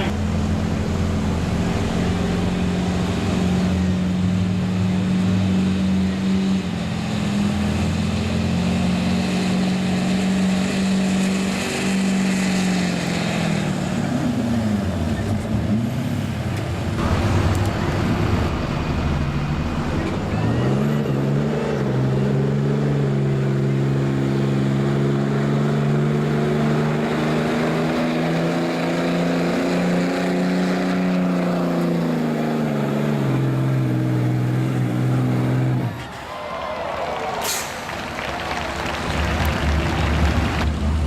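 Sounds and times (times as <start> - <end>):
diesel engine under full load: 0.0 - 41.0.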